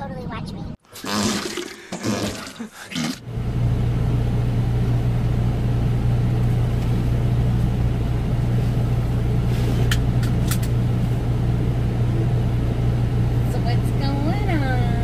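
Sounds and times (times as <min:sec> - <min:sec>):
diesel truck engine drone: 0:02.6 - 0:15.0.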